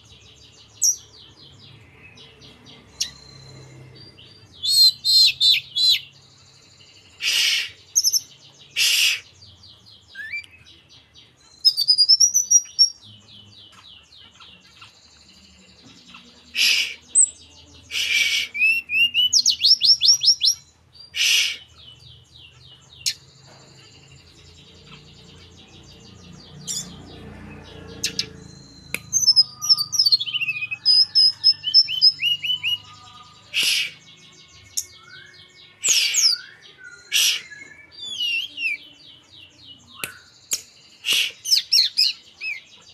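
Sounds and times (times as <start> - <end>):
harsh scratchy bird calls: 0.0 - 6.2, 6.9 - 42.9
bird singing whistles and trills: 0.0 - 42.9.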